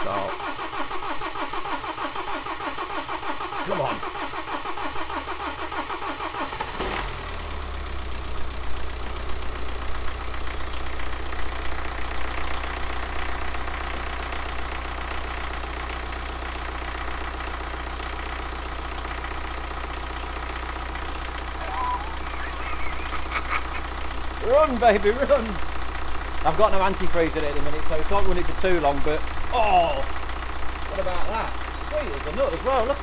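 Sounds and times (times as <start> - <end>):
diesel engine cranking on starter: 0.0 - 33.0
diesel engine idling: 0.0 - 33.0.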